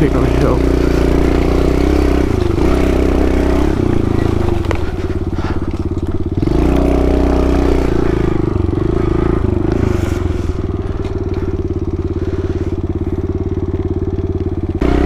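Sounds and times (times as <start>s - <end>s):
small motorcycle engine revving: 0.0s - 15.0s.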